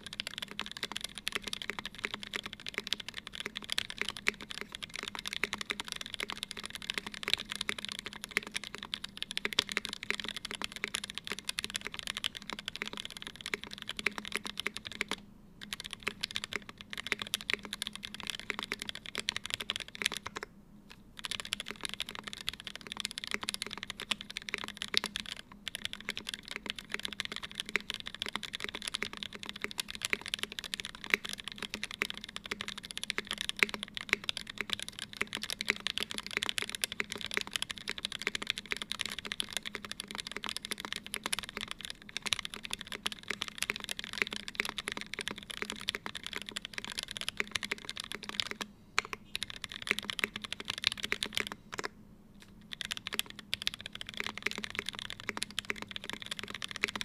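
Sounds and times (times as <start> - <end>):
fast typing on mechanical keyboard: 0.0 - 20.5, 21.2 - 51.9, 52.5 - 57.0.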